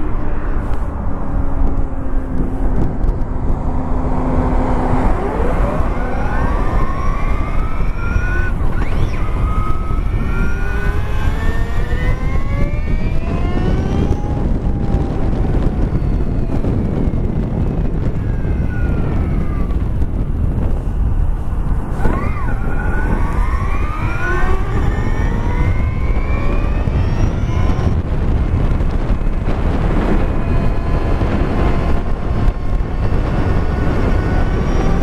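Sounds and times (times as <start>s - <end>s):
electric motorcycle motor whine: 0.0s - 35.0s
wind and road rush: 0.0s - 35.0s.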